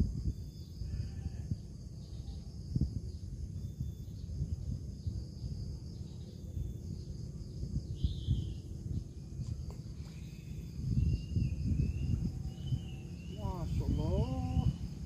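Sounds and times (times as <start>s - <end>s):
insects humming: 0.0s - 15.0s
low rumbling noise: 0.0s - 15.0s
bird chirp: 2.0s - 15.0s.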